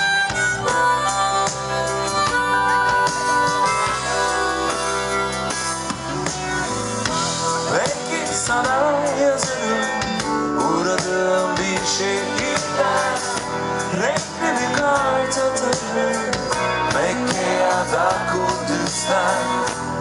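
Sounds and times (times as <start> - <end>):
lead guitar line bending pitch: 0.0 - 19.8
live rock band playing: 0.0 - 20.0.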